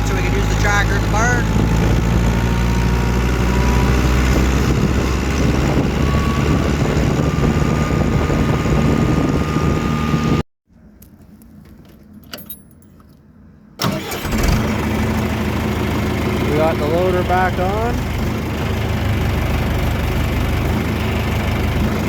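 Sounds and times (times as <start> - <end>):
tractor diesel engine running: 0.0 - 10.4, 13.8 - 22.0.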